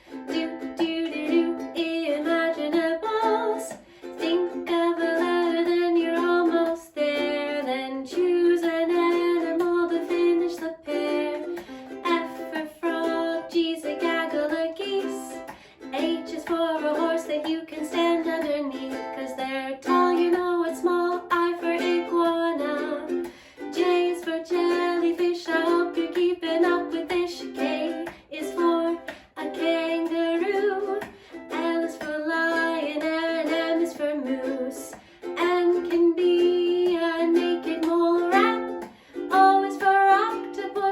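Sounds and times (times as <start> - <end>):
plucked string accompaniment: 0.0 - 40.9
woman singing: 0.0 - 40.9.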